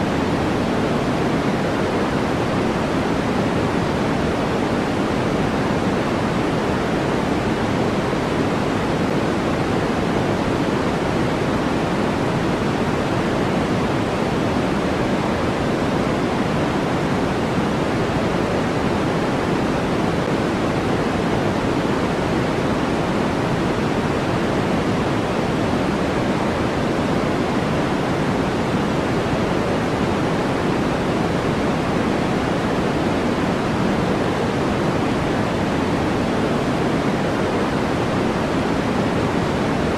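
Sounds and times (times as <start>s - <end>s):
low-weighted white noise hiss: 0.0s - 39.9s.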